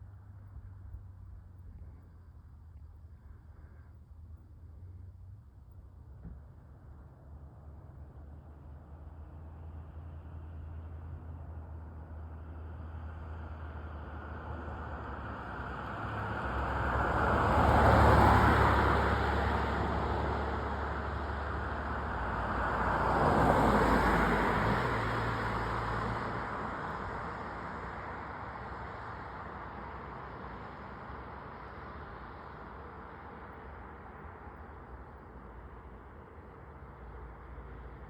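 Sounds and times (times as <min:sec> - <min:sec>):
road vehicles passing: 0:00.0 - 0:38.0.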